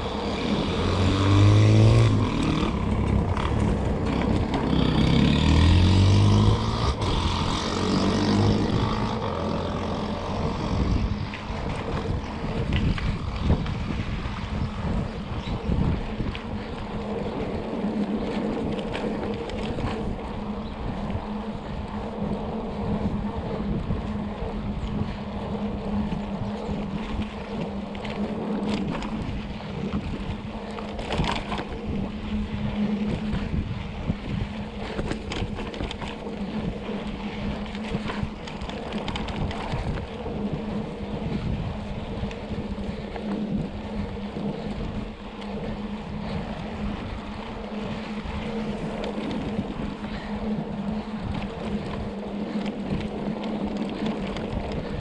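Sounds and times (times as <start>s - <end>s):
bike rolling on dirt road: 0.0s - 55.0s
steady low hum: 0.0s - 55.0s
wind buffeting microphone: 0.0s - 55.0s.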